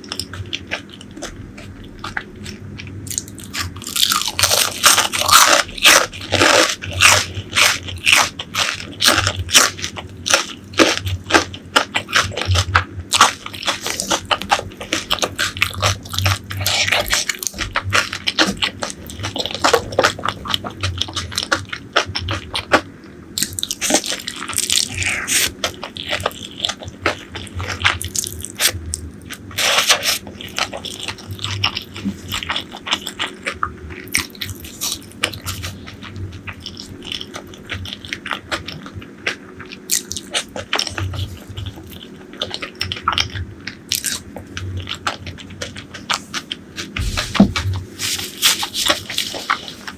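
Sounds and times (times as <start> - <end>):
crunching and chewing fried food: 0.0 - 49.9.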